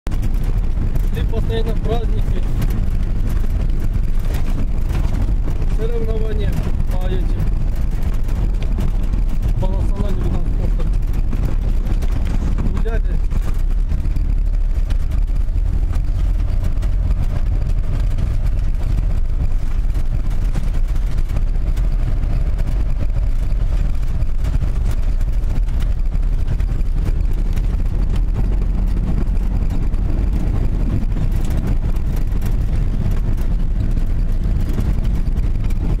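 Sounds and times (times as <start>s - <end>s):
vehicle engine and road rumble: 0.0s - 36.0s.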